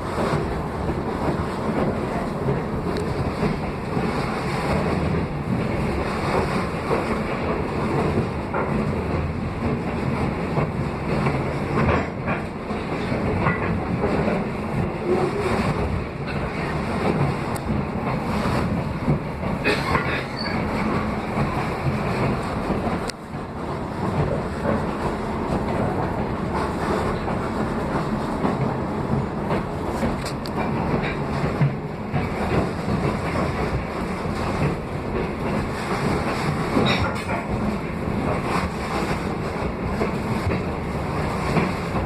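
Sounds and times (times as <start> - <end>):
train wheels clacking on rails: 0.0 - 42.0.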